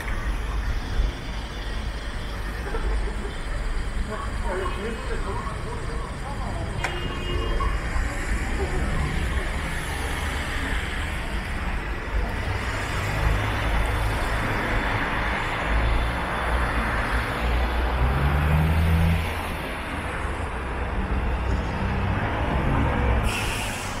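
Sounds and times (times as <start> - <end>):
city road traffic: 0.0 - 24.0.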